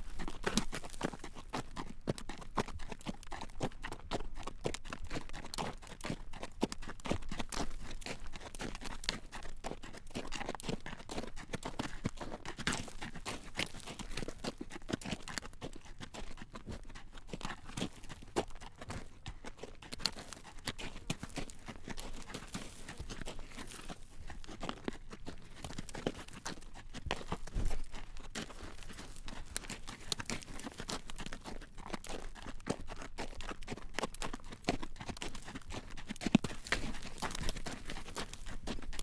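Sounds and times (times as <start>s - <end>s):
horse hooves clip-clopping on road: 0.0s - 39.0s.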